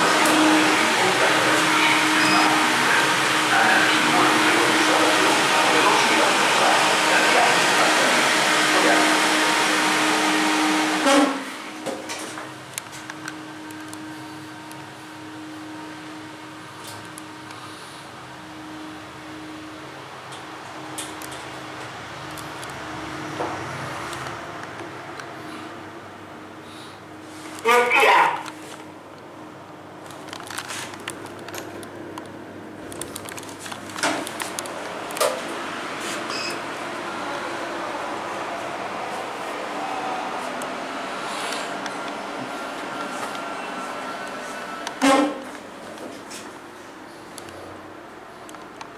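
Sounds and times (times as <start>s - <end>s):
low machine hum in lift: 0.0s - 48.9s.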